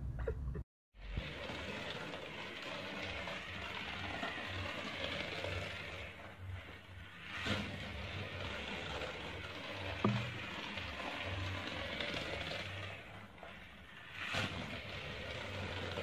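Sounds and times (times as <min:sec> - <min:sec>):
toy car motor whir and rattle: 0:01.0 - 0:16.0.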